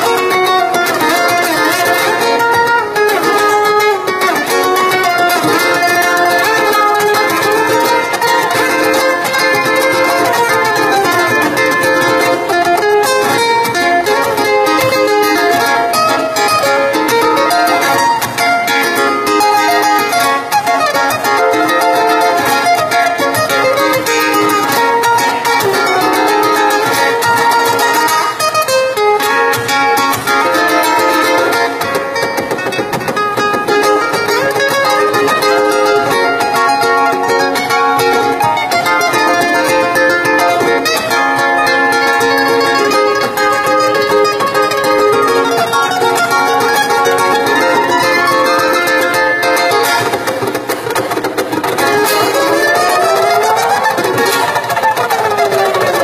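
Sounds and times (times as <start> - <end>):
ukuleles playing duet: 0.0 - 56.0.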